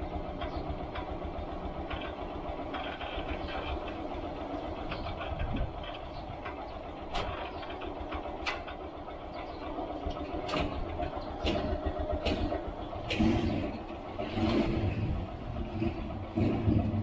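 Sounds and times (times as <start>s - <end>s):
body and sidecar rattling: 0.0s - 17.0s
motorcycle engine running: 0.0s - 17.0s.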